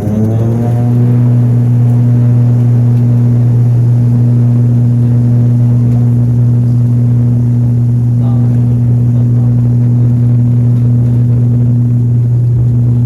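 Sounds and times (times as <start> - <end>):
aircraft engine droning: 0.0 - 13.0.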